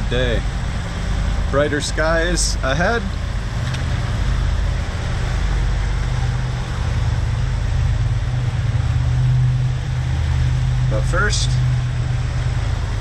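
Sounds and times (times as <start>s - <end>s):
boat engines droning: 0.0s - 13.0s
hiss of wind and water: 0.0s - 13.0s.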